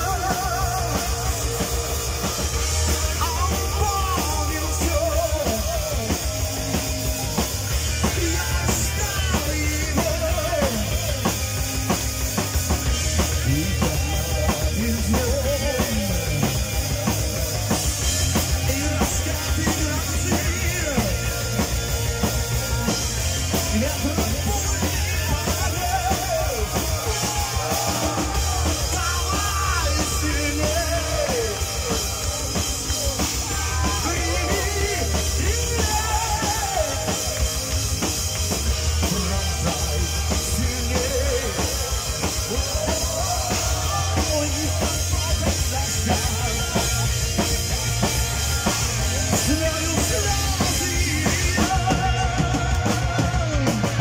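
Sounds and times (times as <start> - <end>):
live rock band playing: 0.0 - 54.0
man singing: 0.0 - 54.0.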